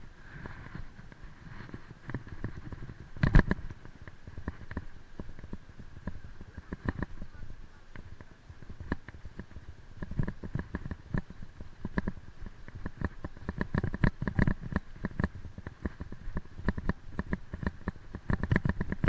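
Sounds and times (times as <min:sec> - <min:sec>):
bicycle rattling and knocking: 0:00.0 - 0:19.0.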